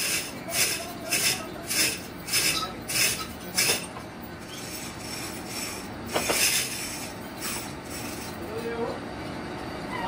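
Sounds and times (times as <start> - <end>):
factory floor noise: 0.0 - 9.9.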